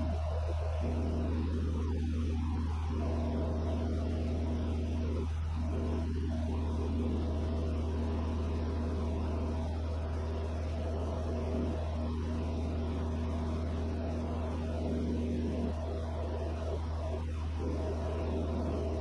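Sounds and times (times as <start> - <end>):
aircraft engine and propeller hum: 0.0 - 19.0.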